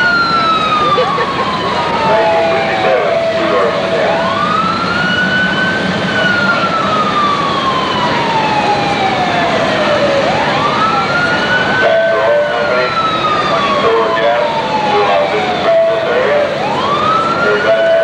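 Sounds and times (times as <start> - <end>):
siren wailing: 0.0 - 18.0.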